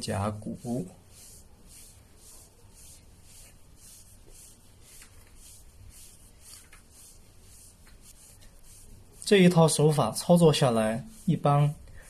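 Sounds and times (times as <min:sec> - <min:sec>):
hands rubbing swishing strokes: 0:00.0 - 0:12.0.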